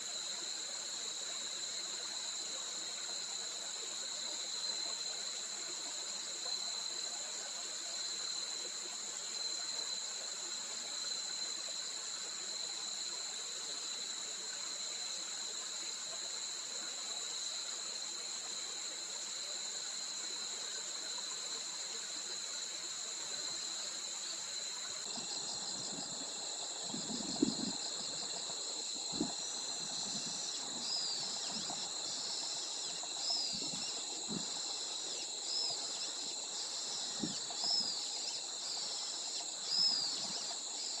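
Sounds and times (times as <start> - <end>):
insect drone: 0.0 - 41.0
running water hiss: 0.0 - 41.0.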